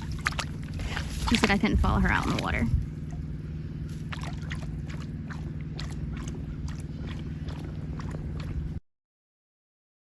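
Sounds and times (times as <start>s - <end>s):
dog splashing in water: 0.0s - 3.3s, 4.0s - 8.8s
low hum: 0.0s - 8.8s.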